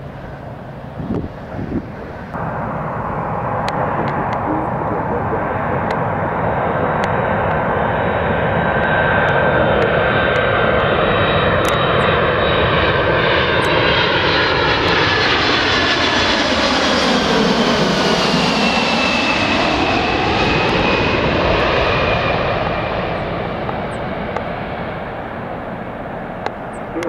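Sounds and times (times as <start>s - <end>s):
jet aircraft roar overhead: 0.0s - 27.0s
jet engine whine: 0.0s - 27.0s.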